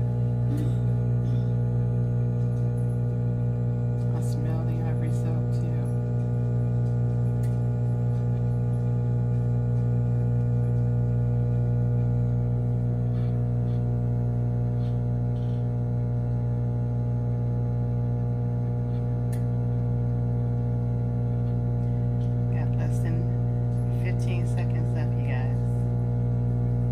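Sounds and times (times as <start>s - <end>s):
microwave oven humming: 0.0s - 26.9s.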